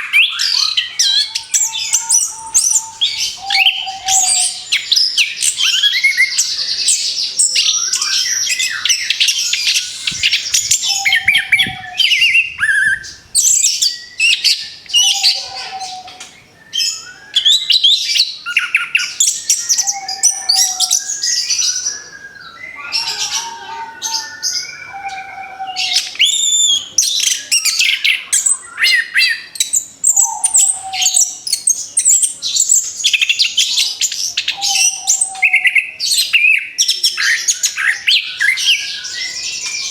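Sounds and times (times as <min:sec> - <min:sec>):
thrush singing whistles and chirps: 0:00.0 - 0:39.9.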